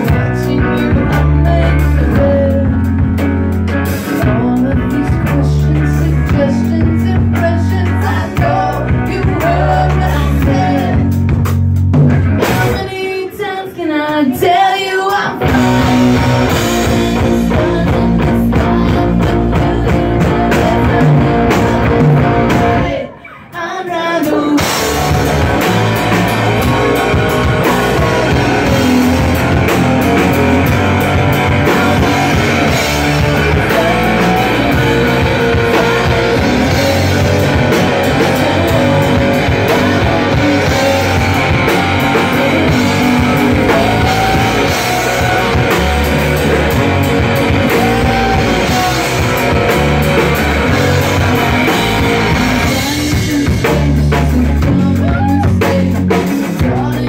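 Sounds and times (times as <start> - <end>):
woman singing: 0.0 - 3.2, 3.9 - 11.2, 12.4 - 49.9, 50.6 - 57.0
electric bass: 0.0 - 13.0, 15.3 - 23.1, 24.6 - 57.0
drum kit: 0.0 - 13.5, 14.1 - 57.0
electric guitar: 0.0 - 57.0.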